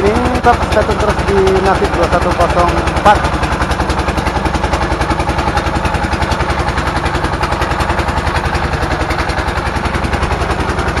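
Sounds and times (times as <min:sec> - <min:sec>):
boat engine putt-putt: 0:00.0 - 0:11.0.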